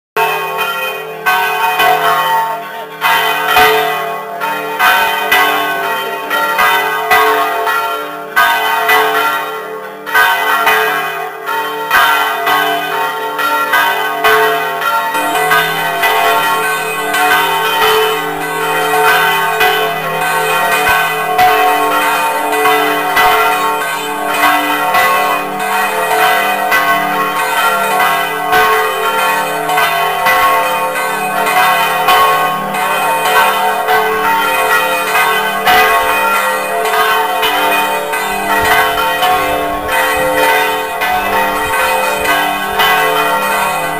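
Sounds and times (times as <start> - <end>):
church bells pealing: 0.2 - 43.9.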